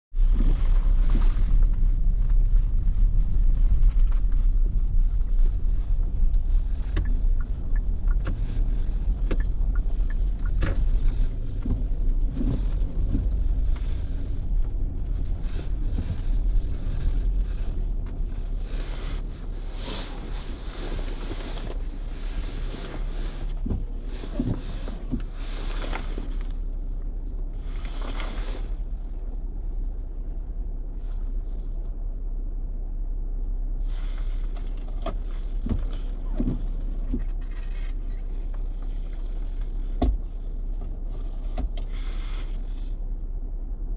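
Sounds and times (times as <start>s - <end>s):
vehicle rumble on road: 0.0s - 43.9s.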